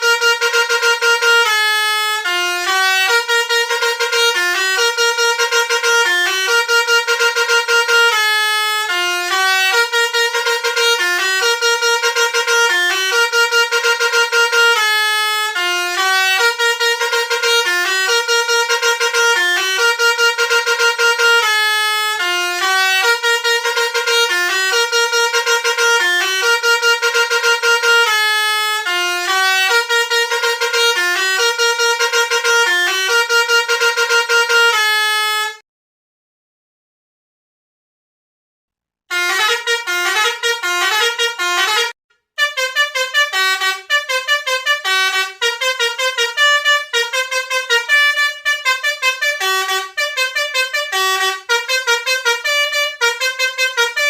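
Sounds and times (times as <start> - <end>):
musical bus horn playing tune: 0.0 - 35.6, 39.1 - 54.0.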